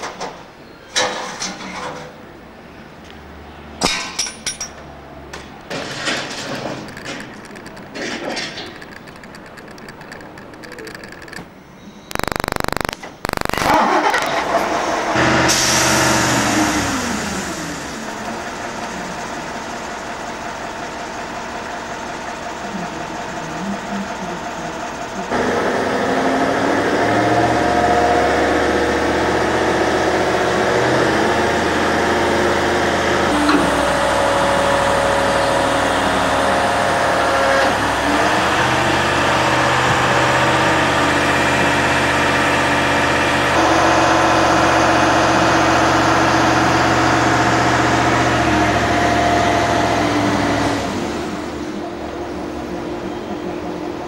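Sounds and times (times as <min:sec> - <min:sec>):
engine humming: 0:02.2 - 0:54.0.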